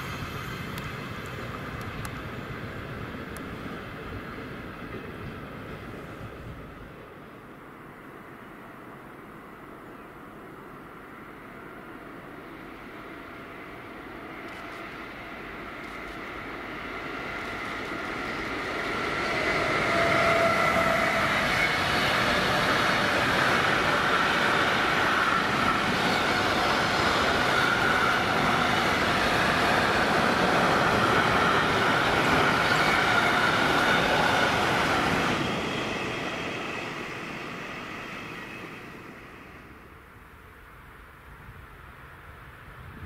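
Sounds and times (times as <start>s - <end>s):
freight train wheels rumbling on rail: 0.0s - 43.0s.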